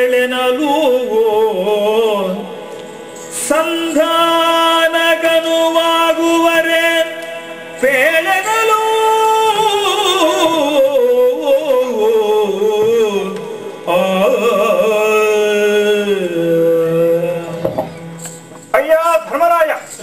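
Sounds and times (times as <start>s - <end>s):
person singing ornamented melody: 0.0s - 19.4s.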